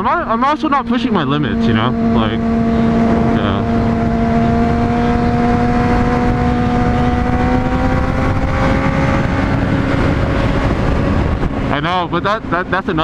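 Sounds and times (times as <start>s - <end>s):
motorcycle engine running: 0.0s - 13.0s
wind noise on microphone: 1.1s - 13.0s.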